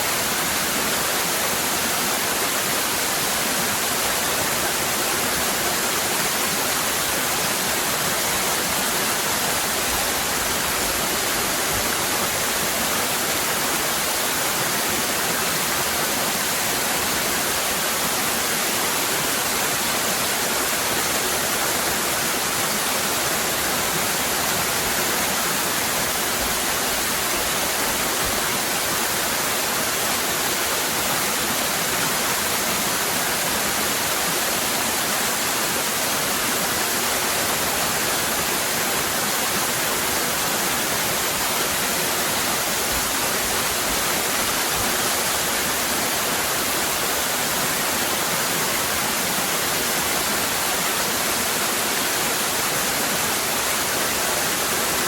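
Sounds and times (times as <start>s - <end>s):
waterfall cascading: 0.0s - 55.0s.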